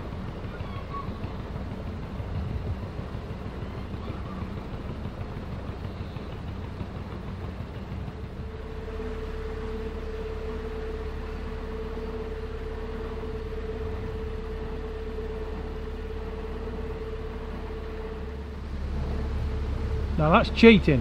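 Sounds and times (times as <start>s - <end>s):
boat engine rumbling: 0.0s - 21.0s
steady high hum: 1.2s - 21.0s.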